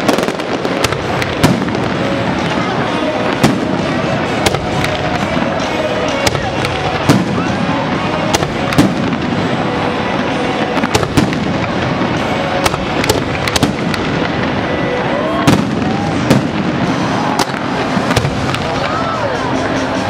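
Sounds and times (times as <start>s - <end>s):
firework shells bursting with bangs: 0.0s - 19.0s
firework crackling: 0.0s - 20.0s.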